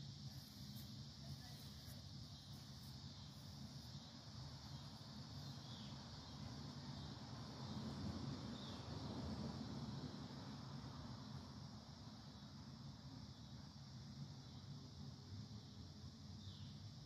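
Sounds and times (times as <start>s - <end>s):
high hiss-like drone: 0.0s - 17.0s.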